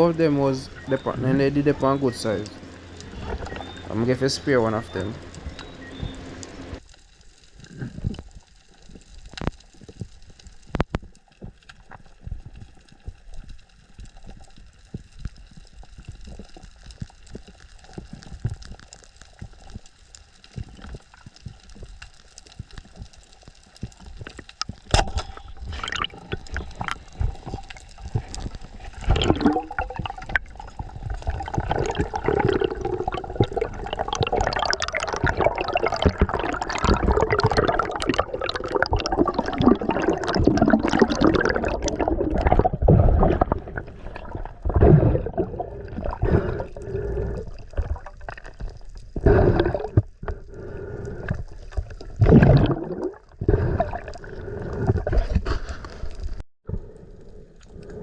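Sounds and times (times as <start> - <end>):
underwater clicks and crackle: 0.0 - 58.0
underwater sloshing and gurgling: 0.0 - 58.0.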